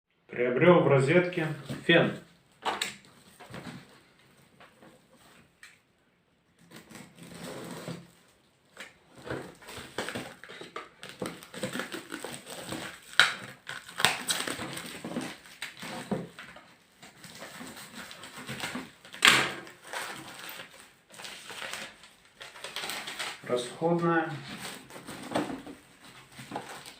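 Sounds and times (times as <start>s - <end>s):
cardboard and paper rustling: 1.4s - 5.6s, 6.6s - 26.9s.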